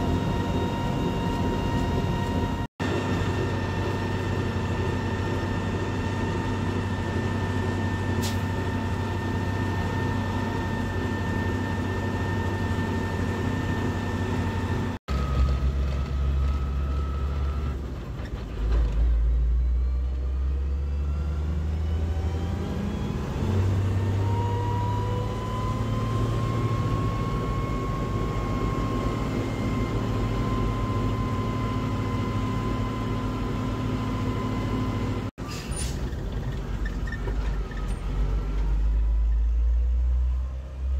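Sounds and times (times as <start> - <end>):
tractor diesel engine drone: 0.0 - 40.9.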